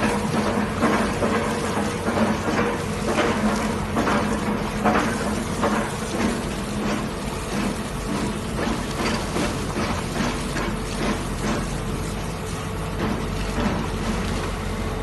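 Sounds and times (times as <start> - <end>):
hissing water-like rushes: 0.0 - 14.8
drill rig engine hum: 0.0 - 15.0.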